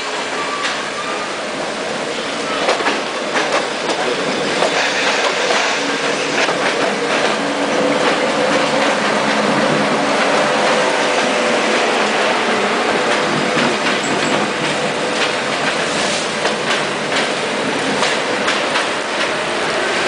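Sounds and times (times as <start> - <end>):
train wheels clattering: 2.5 - 20.0.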